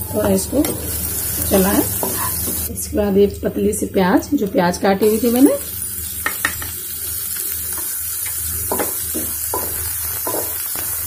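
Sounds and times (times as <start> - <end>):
onion sizzling in oil: 0.0 - 3.0, 4.5 - 11.0.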